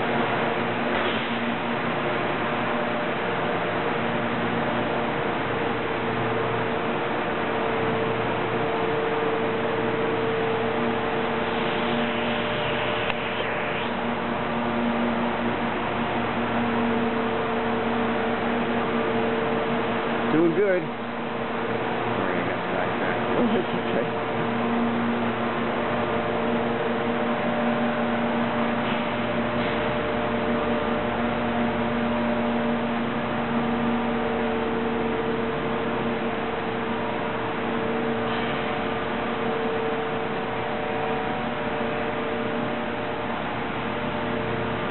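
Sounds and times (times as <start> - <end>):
factory machinery humming: 0.0 - 44.9.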